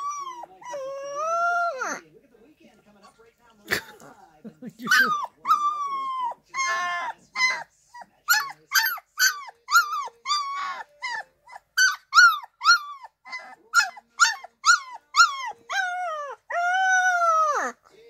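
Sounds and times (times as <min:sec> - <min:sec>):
puppy howling and yelping: 0:00.0 - 0:02.0, 0:04.9 - 0:17.9.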